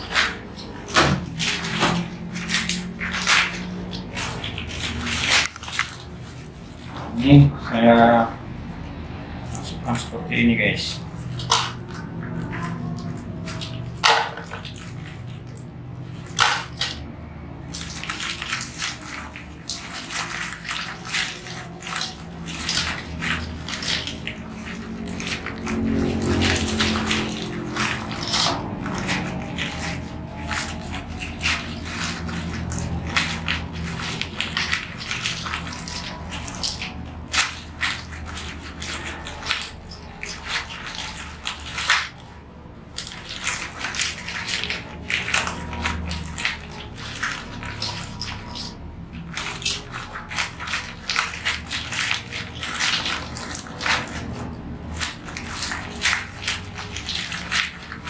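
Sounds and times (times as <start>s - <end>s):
plastic bag crinkling: 0.0s - 7.4s, 9.3s - 58.0s.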